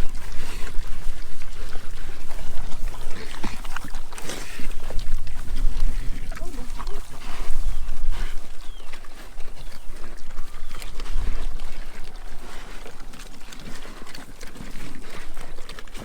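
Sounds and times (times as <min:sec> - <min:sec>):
pigs chewing and smacking: 0:00.0 - 0:16.0
pigs grunting: 0:00.0 - 0:16.0.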